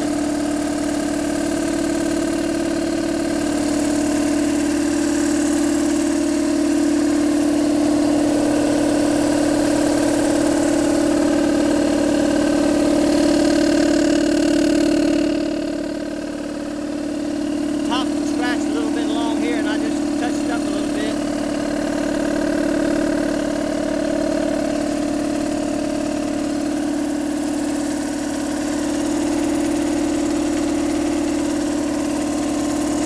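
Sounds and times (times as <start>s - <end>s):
electric air compressor running: 0.0s - 33.0s.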